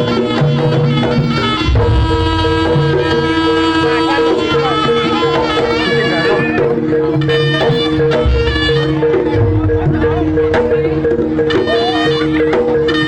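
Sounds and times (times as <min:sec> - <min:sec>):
hand drums: 0:00.0 - 0:13.0
melody of long held notes: 0:00.0 - 0:13.0.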